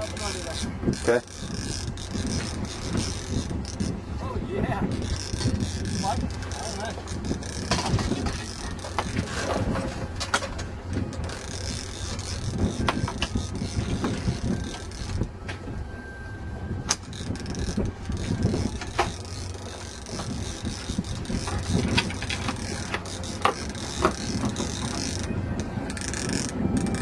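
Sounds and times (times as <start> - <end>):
fishing reel clicking: 0.0 - 4.0, 4.8 - 9.7, 10.4 - 15.3, 16.9 - 27.0
water: 0.0 - 27.0
wind: 0.0 - 27.0.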